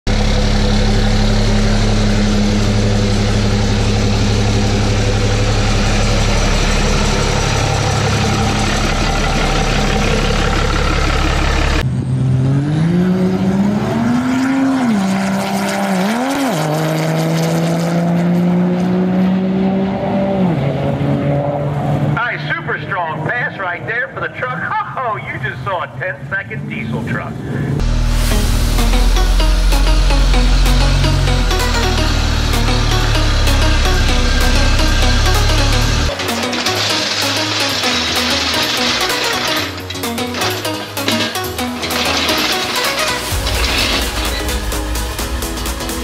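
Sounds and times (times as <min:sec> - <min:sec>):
diesel engine droning: 0:00.0 - 0:46.0.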